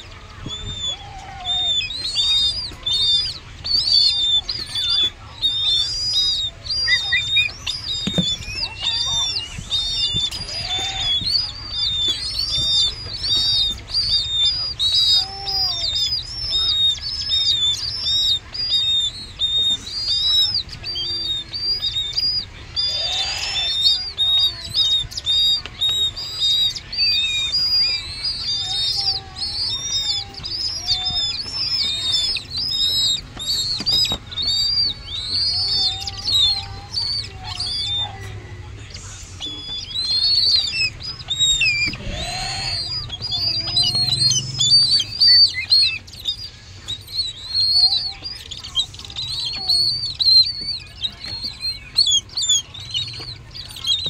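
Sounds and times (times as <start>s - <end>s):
nestling bird begging chirps: 0.0s - 54.0s.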